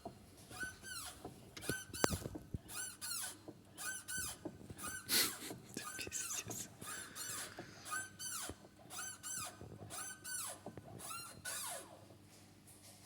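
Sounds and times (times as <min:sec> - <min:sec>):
short high squeaks: 0:00.5 - 0:12.0.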